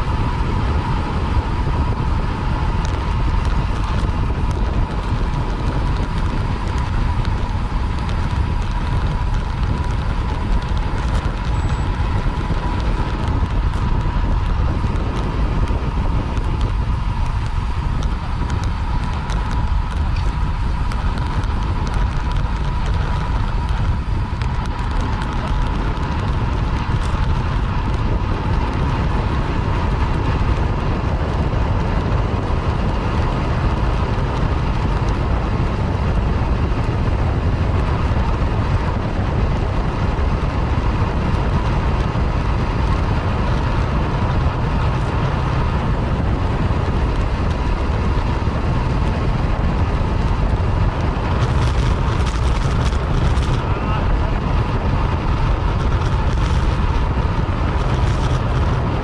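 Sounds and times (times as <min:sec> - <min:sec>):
steady high whine: 0:00.0 - 0:30.6, 0:40.0 - 0:59.0
road and tyre rumble: 0:00.0 - 0:59.0
wind buffeting microphone: 0:00.0 - 0:59.0.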